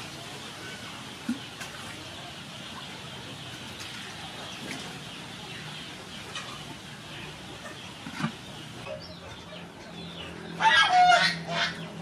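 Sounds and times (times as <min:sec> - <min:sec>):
outdoor background hiss: 0:00.0 - 0:10.6.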